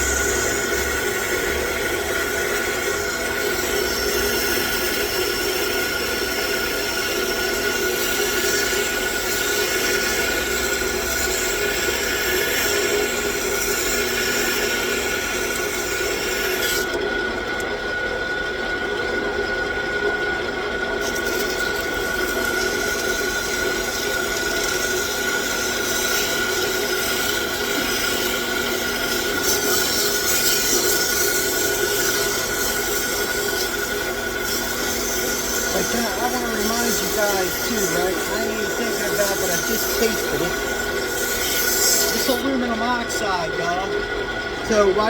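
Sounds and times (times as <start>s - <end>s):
lathe whine: 0.0s - 45.0s.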